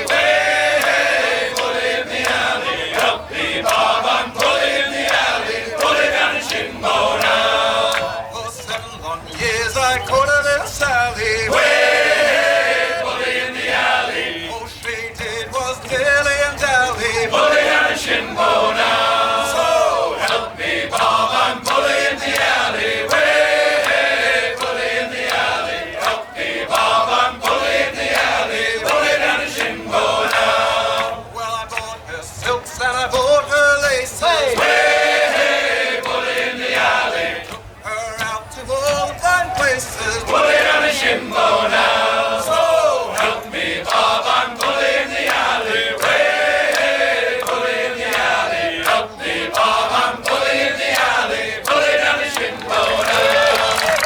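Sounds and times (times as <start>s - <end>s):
male choir singing: 0.0s - 54.0s.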